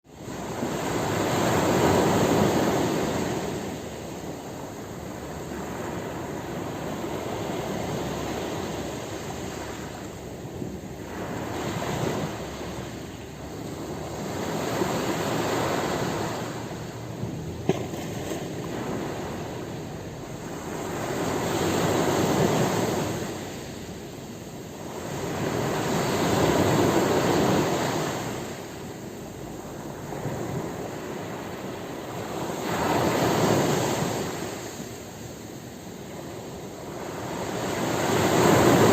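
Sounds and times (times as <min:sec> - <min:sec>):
ocean waves breaking on beach: 0:00.1 - 0:38.9.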